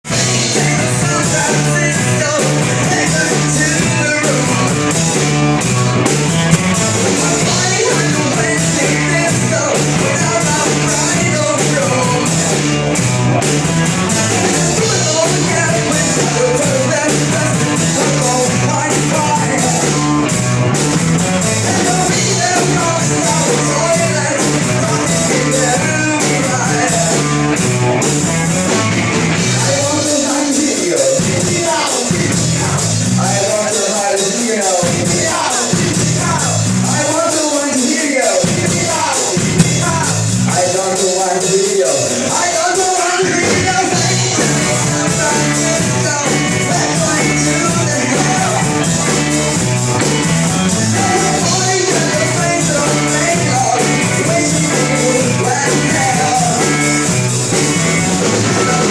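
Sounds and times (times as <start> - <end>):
rock band playing: 0.0 - 58.9
person singing: 0.1 - 5.2, 6.0 - 12.8, 13.9 - 20.4, 21.2 - 27.6, 29.4 - 58.9.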